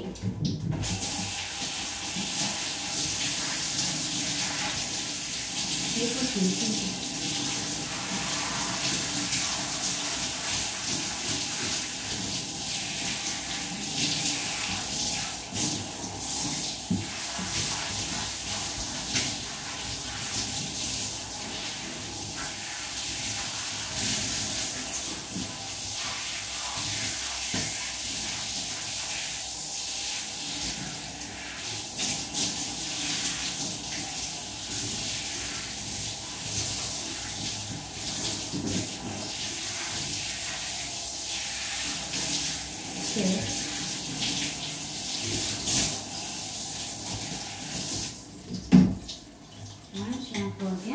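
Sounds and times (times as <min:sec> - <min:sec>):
shower head spraying water: 0:00.7 - 0:48.9.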